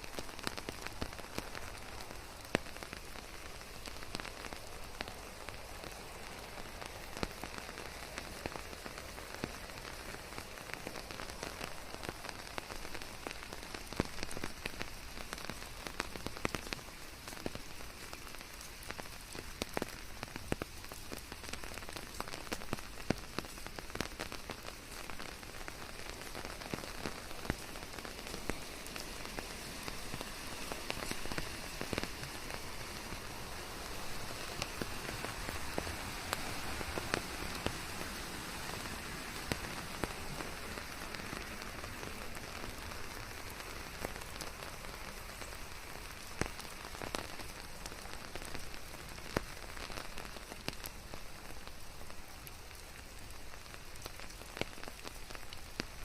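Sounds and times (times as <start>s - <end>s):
rain hissing: 0.0s - 56.0s
raindrops ticking and pattering: 0.0s - 56.0s.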